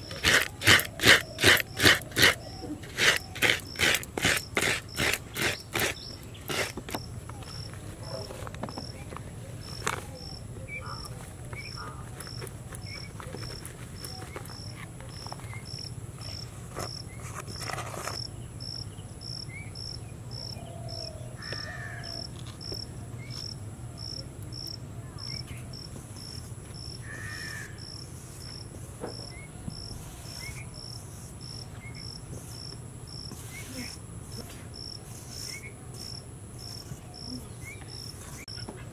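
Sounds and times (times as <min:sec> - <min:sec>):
insect chirping: 0:00.0 - 0:38.7.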